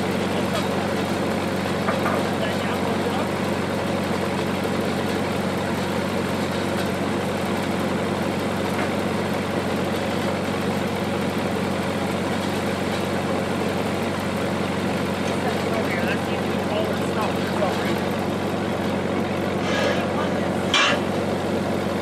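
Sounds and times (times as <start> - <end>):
generator engine humming: 0.0 - 22.0.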